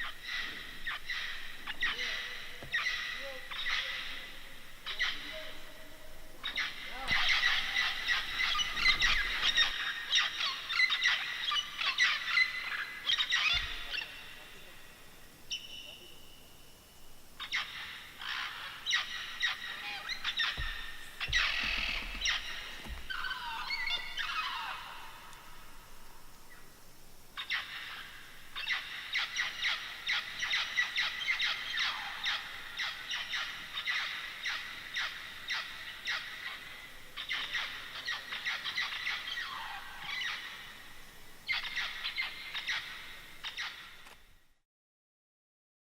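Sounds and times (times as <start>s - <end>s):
parrots squawking: 0.0s - 16.0s, 17.2s - 26.6s, 27.2s - 40.8s, 41.4s - 44.0s.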